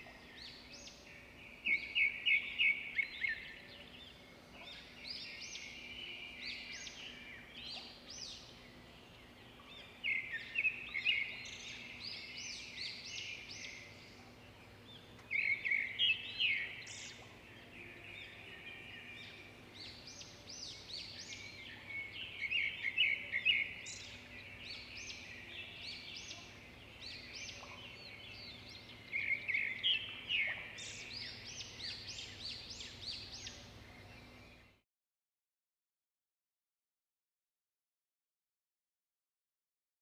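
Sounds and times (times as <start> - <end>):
small birds chirping: 0.0 - 34.8.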